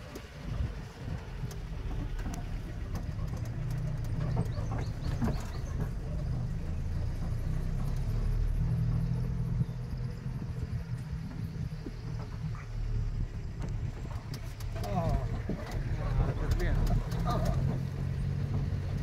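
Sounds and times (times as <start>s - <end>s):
knocks and rattles from bumpy ride: 0.0s - 19.0s
off-road vehicle engine under load: 0.0s - 19.0s.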